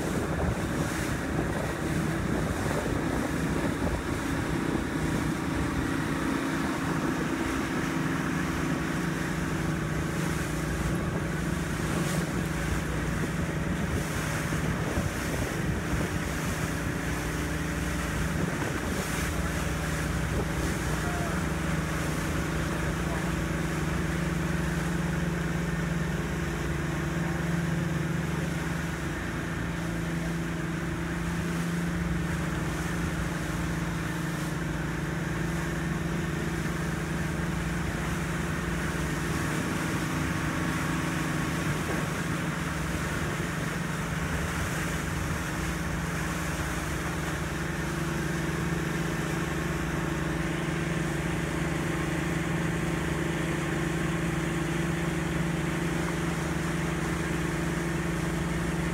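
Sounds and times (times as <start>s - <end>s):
motorboat engine hum: 0.0s - 58.9s
water rushing: 0.0s - 58.9s
wind: 0.0s - 58.9s.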